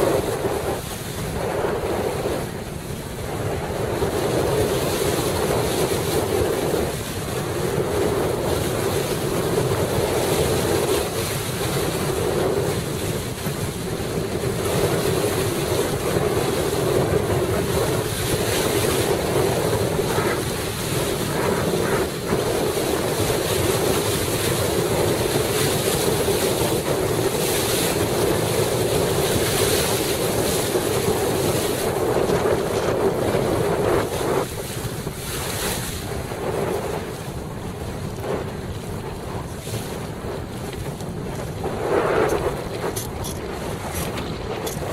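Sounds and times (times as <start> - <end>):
water rushing and splashing: 0.0 - 44.9
wind on microphone: 0.0 - 44.9.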